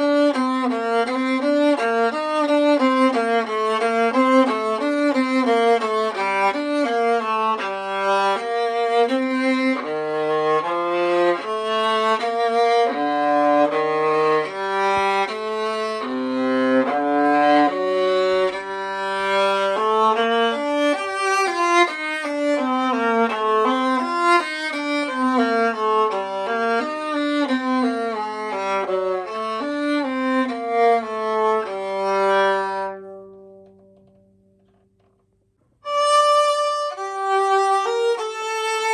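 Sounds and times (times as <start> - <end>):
bowed viola melody: 0.0 - 34.8, 35.8 - 38.9.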